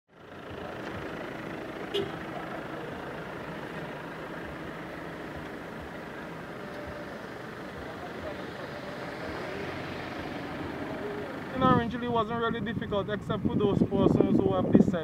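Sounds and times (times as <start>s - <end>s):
vehicle road and engine noise: 0.1s - 15.0s.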